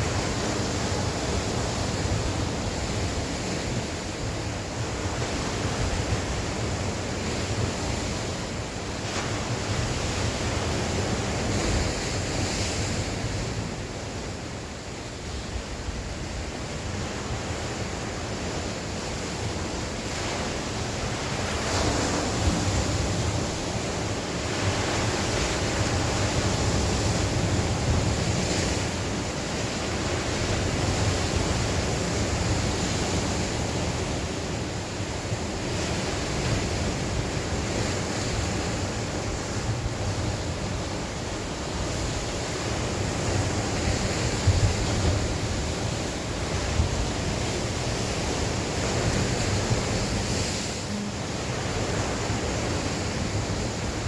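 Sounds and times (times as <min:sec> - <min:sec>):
sea waves washing ashore: 0:00.0 - 0:54.0
wind rumbling on microphone: 0:00.0 - 0:54.0.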